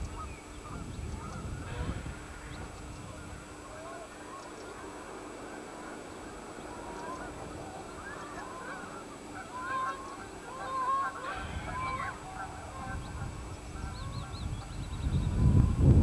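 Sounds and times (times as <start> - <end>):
birds calling: 0.0 - 15.8.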